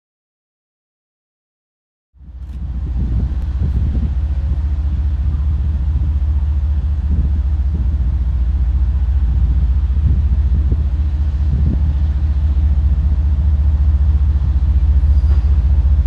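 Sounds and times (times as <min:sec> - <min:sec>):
diesel locomotive engines rumbling: 0:02.2 - 0:16.0.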